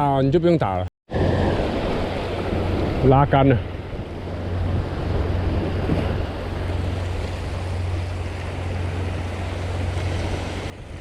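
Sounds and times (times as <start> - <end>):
sea surf against rocks: 1.1 - 11.0
wind buffeting microphone: 1.1 - 11.0.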